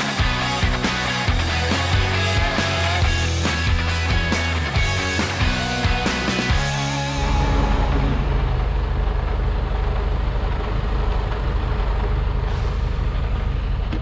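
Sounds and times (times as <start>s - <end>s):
heavy truck engine drone: 0.0s - 14.0s
road noise: 0.0s - 14.0s.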